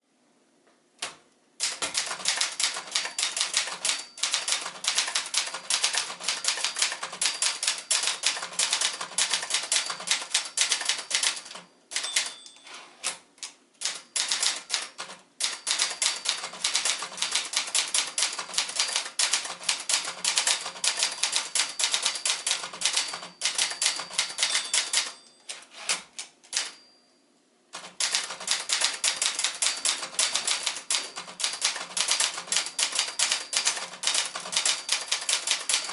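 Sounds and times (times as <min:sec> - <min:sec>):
typewriter keys striking rapidly: 0:01.6 - 0:12.3, 0:13.8 - 0:25.2, 0:25.9 - 0:26.8, 0:27.8 - 0:35.9.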